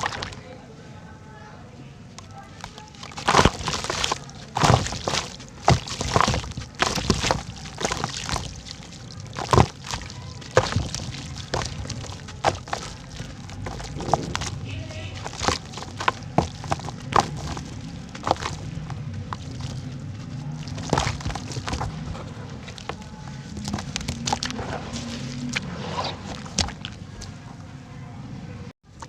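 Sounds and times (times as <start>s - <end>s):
dirt cracking and crumbling: 0.0s - 0.5s, 2.2s - 27.5s.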